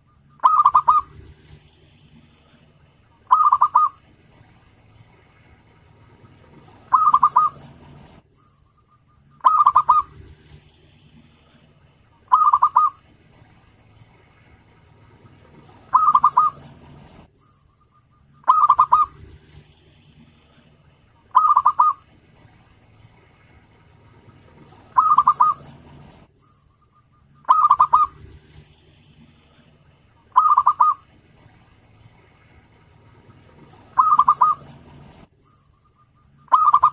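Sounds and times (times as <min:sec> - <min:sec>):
dove cooing: 0:00.4 - 0:01.6, 0:02.2 - 0:04.6, 0:06.0 - 0:10.6, 0:11.2 - 0:13.6, 0:15.3 - 0:17.3, 0:18.2 - 0:22.6, 0:23.5 - 0:36.9.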